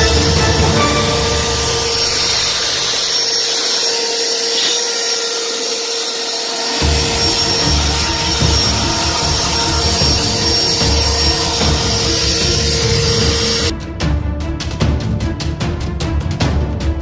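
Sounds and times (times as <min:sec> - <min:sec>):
power tool motor whine: 0:00.0 - 0:13.7.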